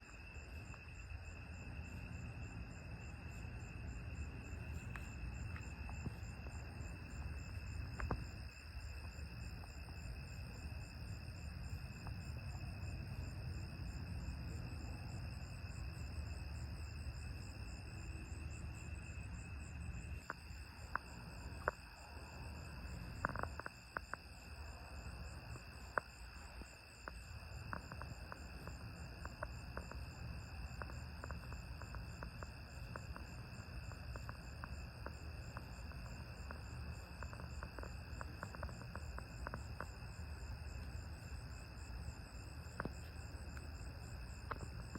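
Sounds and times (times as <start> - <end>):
crickets trilling: 0.0 - 44.9.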